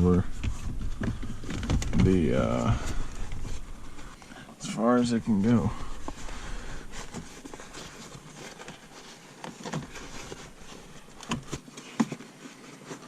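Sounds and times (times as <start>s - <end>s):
faint rubbing and handling noise: 0.0s - 13.0s.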